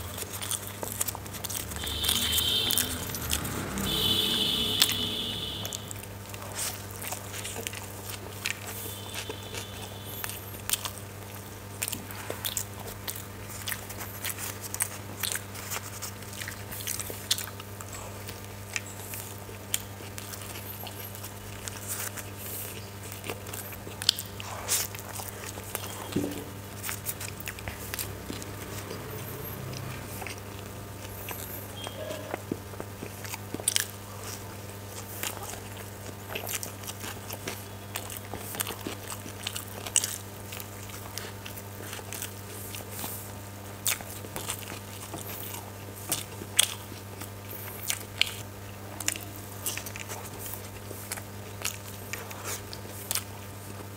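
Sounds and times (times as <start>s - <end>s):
person biting and chewing: 0.0s - 48.4s.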